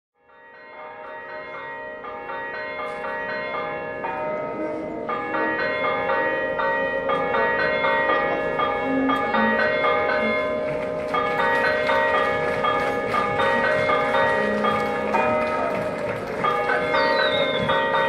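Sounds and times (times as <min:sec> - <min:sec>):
church bells pealing: 0:00.2 - 0:18.0.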